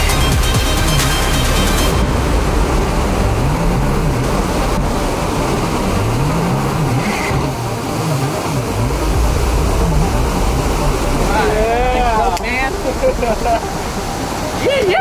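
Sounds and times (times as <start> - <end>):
boat engine revving: 0.0 - 15.0
whitewater rapids rushing: 0.0 - 15.0.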